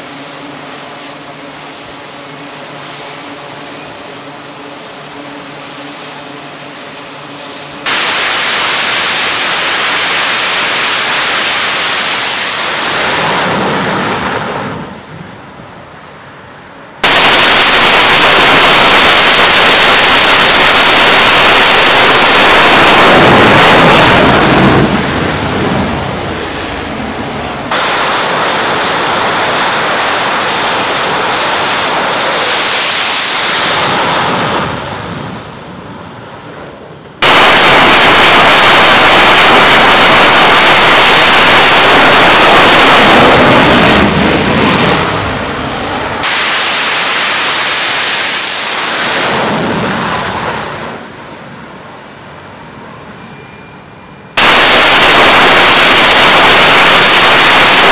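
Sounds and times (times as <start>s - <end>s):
loud jet engine noise: 0.0s - 57.9s.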